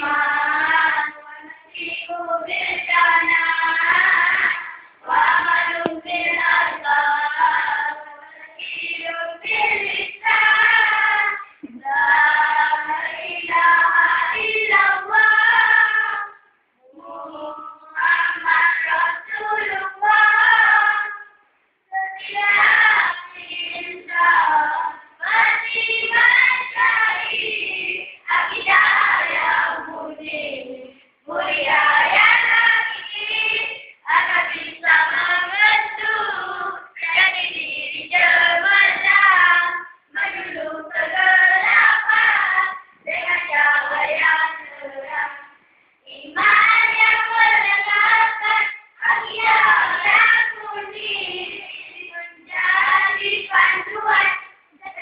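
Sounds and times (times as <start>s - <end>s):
boys singing together: 0.0s - 21.3s, 21.9s - 55.0s.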